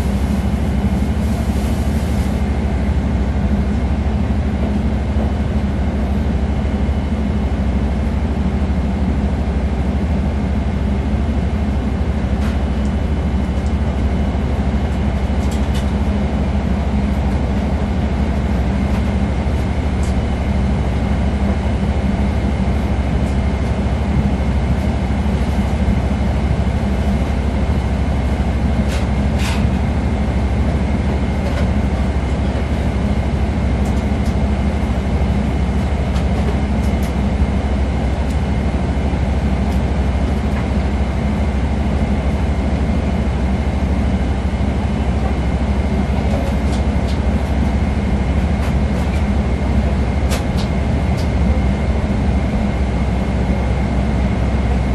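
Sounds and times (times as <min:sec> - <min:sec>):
airliner cabin rumble: 0:00.0 - 0:54.9.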